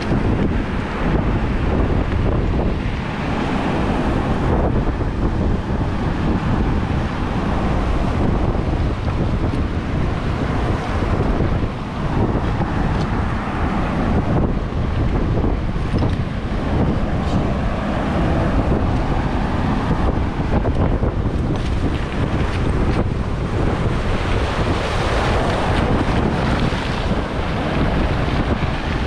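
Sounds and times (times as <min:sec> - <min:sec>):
surf breaking on rocks: 0:00.0 - 0:29.0
wind buffeting microphone: 0:00.0 - 0:29.0.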